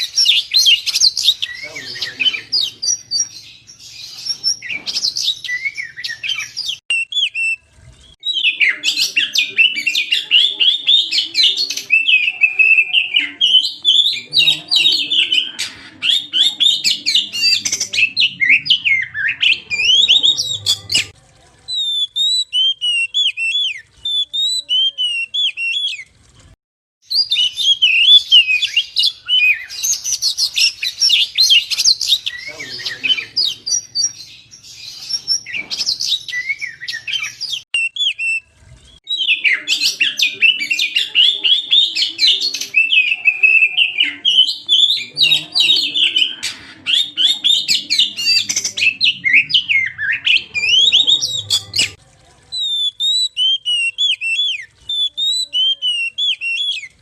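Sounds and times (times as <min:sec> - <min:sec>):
bird singing chattering song: 0:00.0 - 0:26.1, 0:27.1 - 0:52.0, 0:52.6 - 0:57.0.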